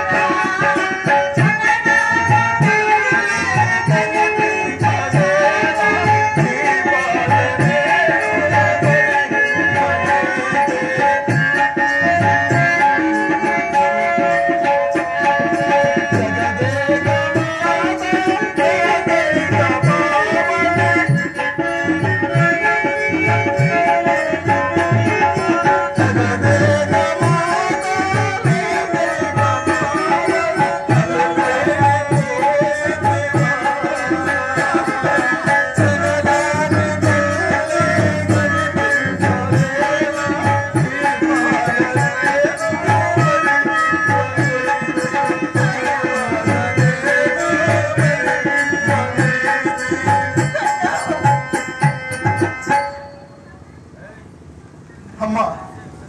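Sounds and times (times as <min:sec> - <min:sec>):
steady drum beat: 0:00.0 - 0:52.8.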